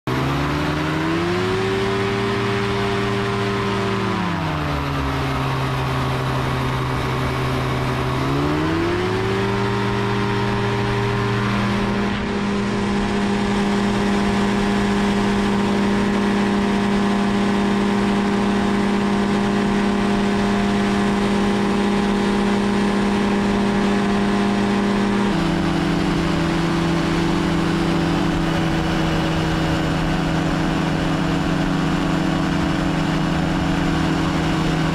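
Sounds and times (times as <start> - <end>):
engine and propeller running: 0.0 - 34.9.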